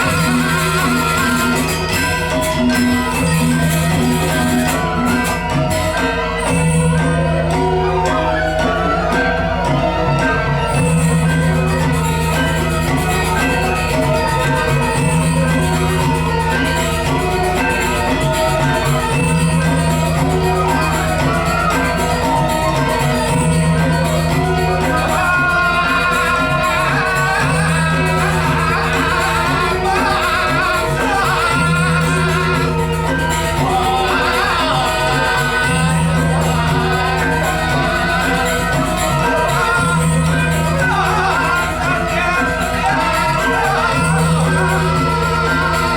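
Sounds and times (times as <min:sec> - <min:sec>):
gamelan ensemble playing: 0:00.0 - 0:45.9
wavering high melody: 0:00.0 - 0:45.9.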